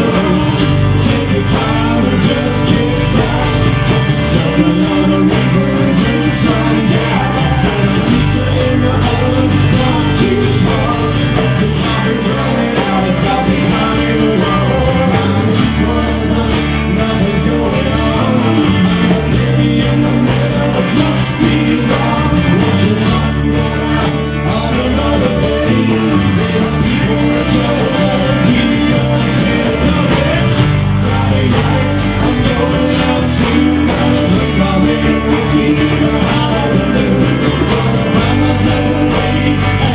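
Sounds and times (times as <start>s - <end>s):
live guitar rock band: 0.0s - 39.9s
person singing: 0.0s - 39.9s.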